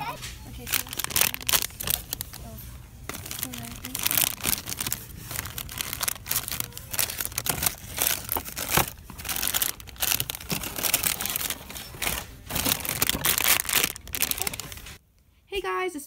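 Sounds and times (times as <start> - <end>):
crinkling handling noise: 0.0 - 15.0.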